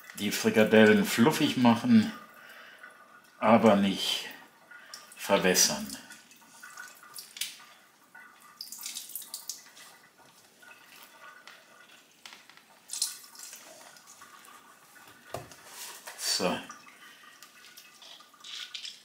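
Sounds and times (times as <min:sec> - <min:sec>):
water dripping into a sink: 0:00.0 - 0:19.0.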